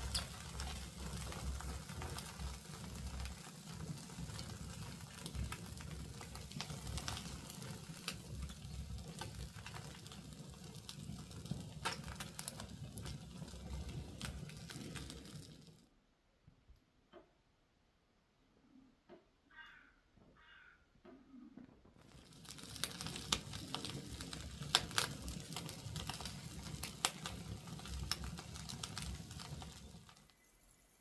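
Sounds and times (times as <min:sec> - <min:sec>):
chicken sizzling on a spit: 0:00.0 - 0:15.8, 0:22.0 - 0:31.0
wood fire crackling and popping: 0:00.0 - 0:15.9, 0:22.0 - 0:31.0.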